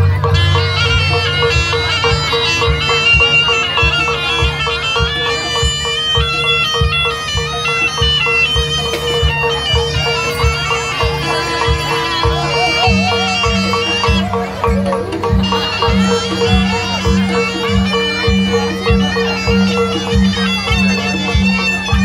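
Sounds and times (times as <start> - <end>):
drum beat: 0.0 - 22.0
reed trumpet melody: 0.0 - 22.0.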